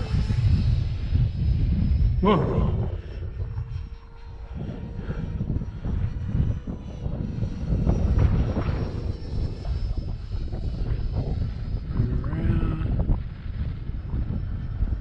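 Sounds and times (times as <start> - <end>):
electric ducted fan whining: 0.0 - 15.0
wind buffeting microphone: 0.0 - 15.0.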